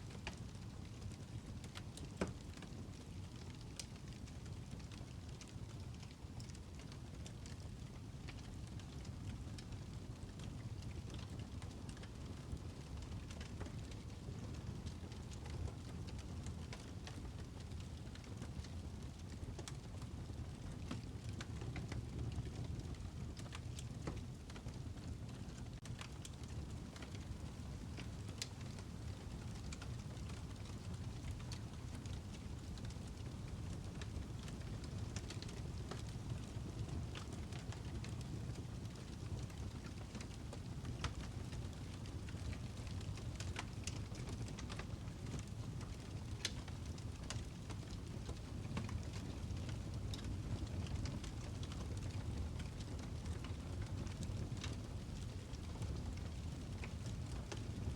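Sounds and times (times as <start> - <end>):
fire popping and snapping: 1.7 - 57.9
fire rumbling: 11.3 - 57.9.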